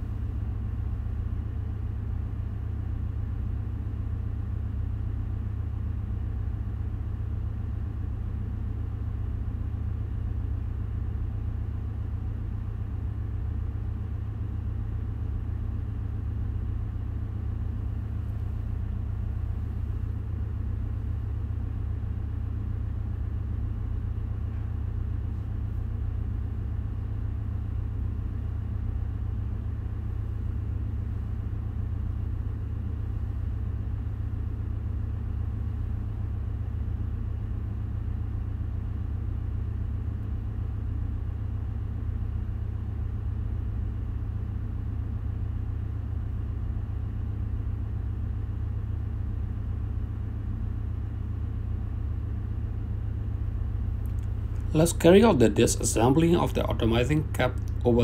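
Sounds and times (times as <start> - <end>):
low machinery rumble: 0.0 - 58.0.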